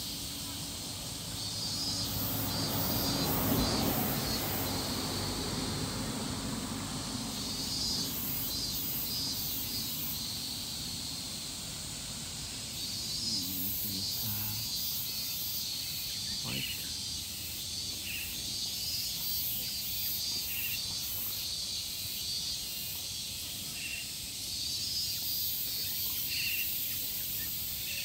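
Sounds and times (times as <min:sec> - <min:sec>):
cicadas pulsing calls: 0:00.0 - 0:28.0.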